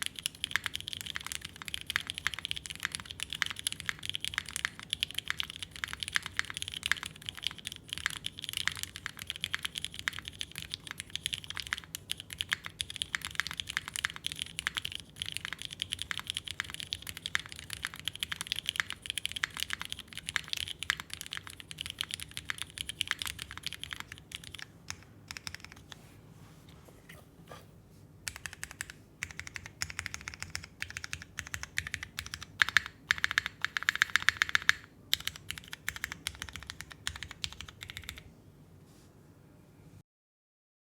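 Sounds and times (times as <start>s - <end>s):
fast mechanical keyboard typing: 0.0s - 25.9s, 28.3s - 38.3s.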